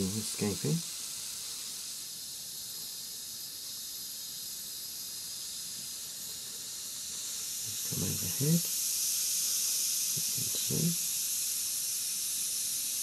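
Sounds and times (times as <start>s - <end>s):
water boiling with steam hiss: 0.0s - 13.0s.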